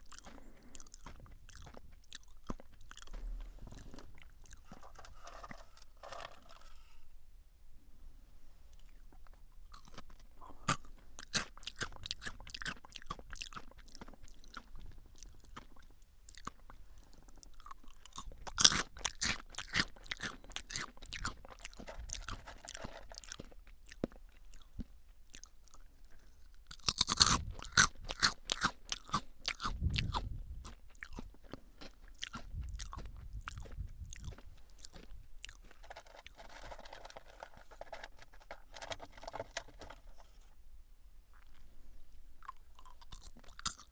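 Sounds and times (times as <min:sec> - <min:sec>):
crunchy chewing of potato sticks: 0:00.0 - 0:06.9, 0:08.7 - 0:40.6, 0:41.2 - 0:43.9.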